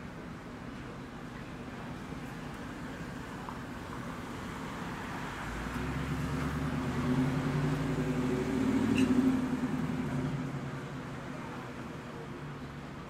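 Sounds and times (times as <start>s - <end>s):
vehicle engine hum passing: 2.0s - 13.0s.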